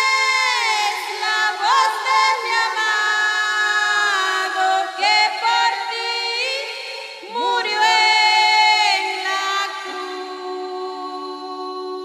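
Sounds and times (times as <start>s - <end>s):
women singing a hymn: 0.0s - 12.0s.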